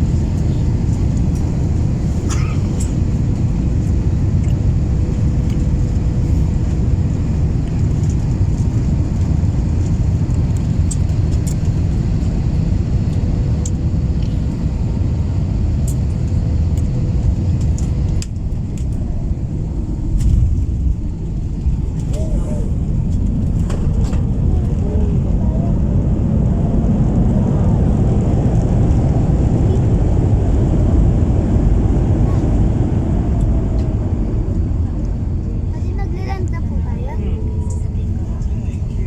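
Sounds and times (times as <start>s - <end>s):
engines and airflow rumble: 0.0s - 39.0s.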